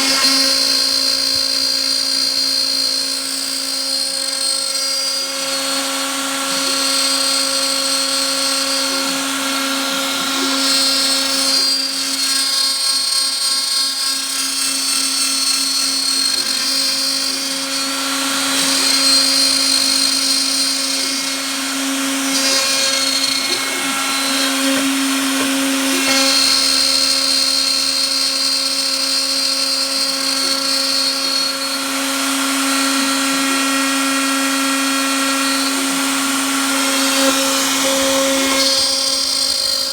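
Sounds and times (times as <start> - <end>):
cnc router motor whine: 0.0 - 39.9.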